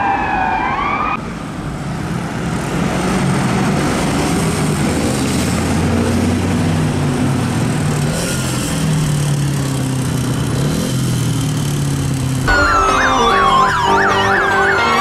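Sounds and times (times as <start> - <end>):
diesel engine pulling away: 1.4 - 15.0.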